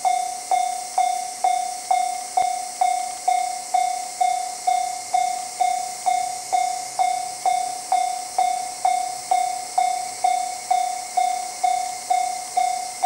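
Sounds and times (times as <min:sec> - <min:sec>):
level-crossing warning bell: 0:00.0 - 0:13.0
steady high hiss: 0:00.0 - 0:13.0.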